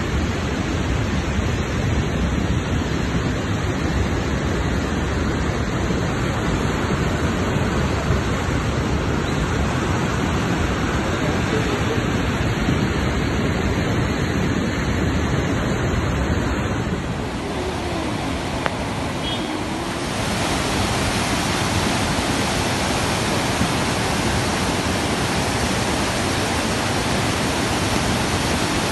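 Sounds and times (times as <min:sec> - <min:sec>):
floodwater roaring: 0:00.0 - 0:28.9.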